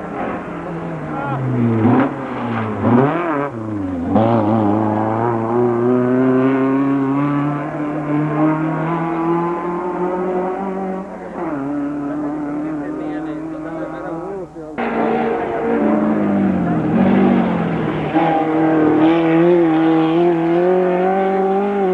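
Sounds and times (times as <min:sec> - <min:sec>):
race car engine revving: 0:00.0 - 0:21.9.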